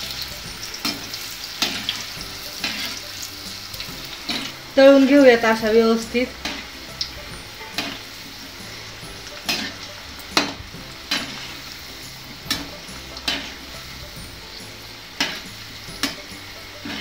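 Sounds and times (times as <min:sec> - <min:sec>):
food sizzling in hot oil: 0:00.0 - 0:17.0
metal ladle scraping a pan: 0:00.0 - 0:17.0.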